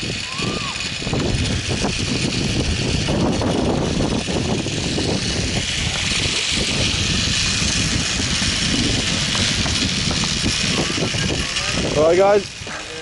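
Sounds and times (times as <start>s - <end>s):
wind on microphone: 0.0s - 13.0s
zip-line trolley rumbling on cable: 0.0s - 13.0s.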